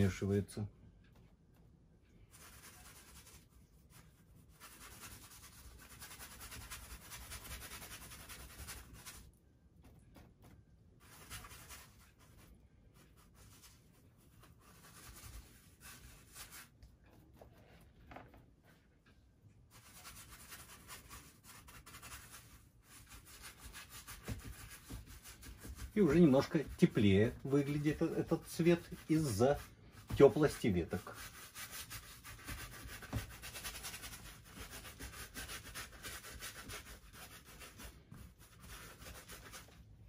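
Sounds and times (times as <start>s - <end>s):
paintbrush scratchy rubbing: 2.1s - 9.4s, 10.0s - 18.0s, 19.7s - 39.8s.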